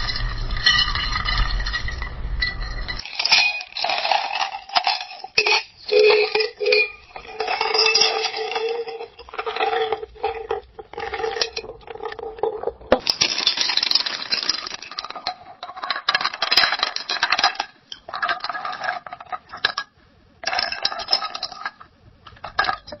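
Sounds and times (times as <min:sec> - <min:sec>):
ice cubes clinking in a glass: 0:00.0 - 0:19.8, 0:20.4 - 0:21.8.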